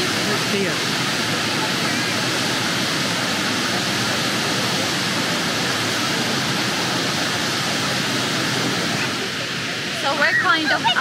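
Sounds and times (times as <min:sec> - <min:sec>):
whitewater rushing around boulders: 0:00.0 - 0:11.0.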